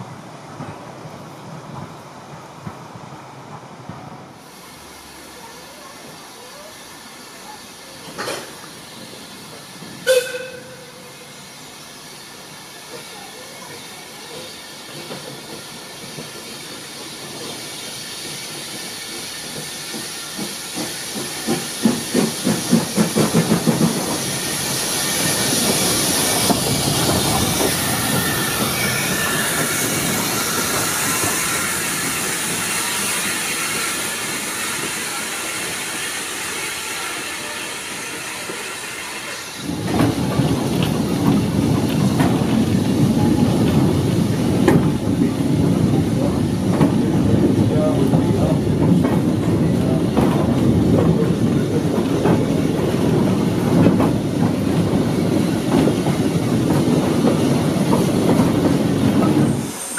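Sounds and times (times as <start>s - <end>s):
steam hissing: 4.3s - 59.9s
steam locomotive exhaust beats: 6.2s - 59.9s.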